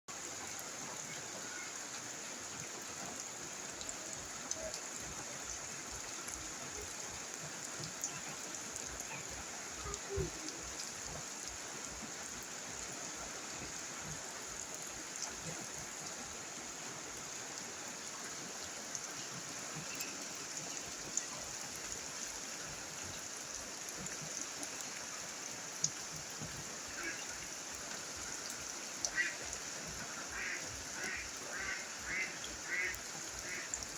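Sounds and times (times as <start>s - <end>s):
steady rain hiss: 0.1s - 33.9s
raindrop ticks: 2.6s - 16.3s, 17.5s - 33.9s.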